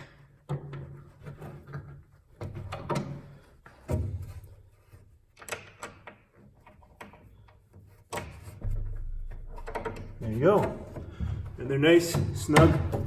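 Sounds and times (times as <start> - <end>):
knocks and clicks of wood handling: 0.1 - 13.0.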